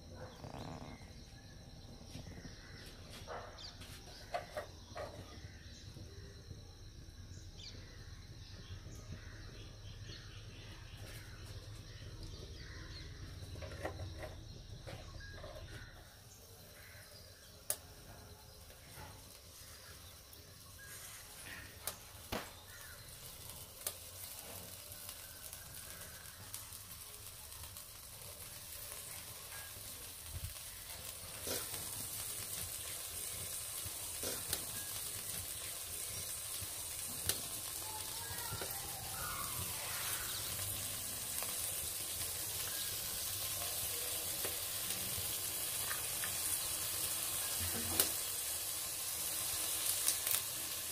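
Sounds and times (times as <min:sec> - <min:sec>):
seeds sizzling in hot oil: 0:00.0 - 0:50.9.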